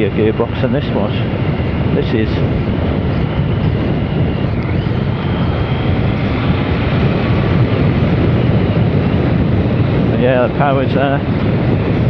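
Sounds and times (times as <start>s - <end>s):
motorcycle engine at speed: 0.0s - 12.0s
wind noise on microphone: 0.0s - 12.0s.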